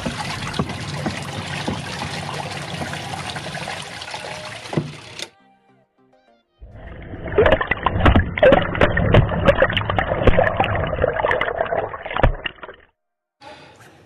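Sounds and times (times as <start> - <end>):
water churning in washing machine: 0.0 - 5.3, 6.7 - 12.8.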